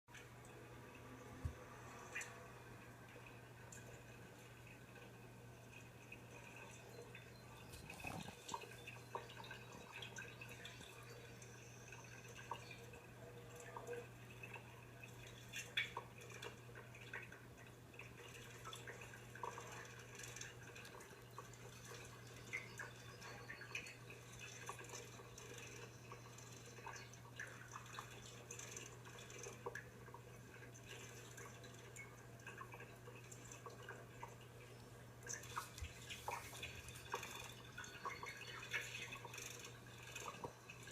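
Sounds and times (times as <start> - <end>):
faint small clicks and ticks: 3.0 - 40.9.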